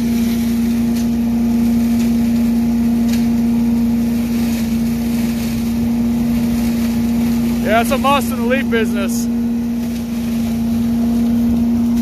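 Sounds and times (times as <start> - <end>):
engine droning: 0.0 - 12.0
leaves sucked into hose: 0.0 - 12.0.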